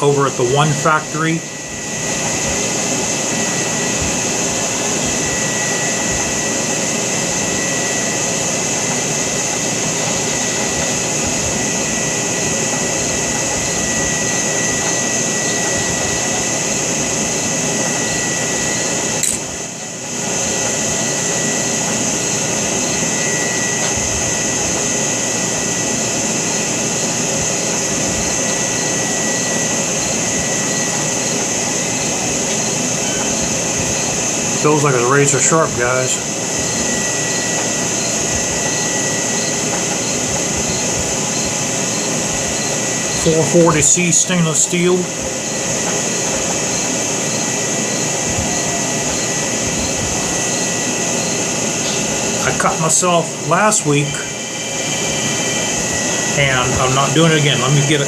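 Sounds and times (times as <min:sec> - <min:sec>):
mechanical whir with high whine: 0:00.0 - 0:58.0.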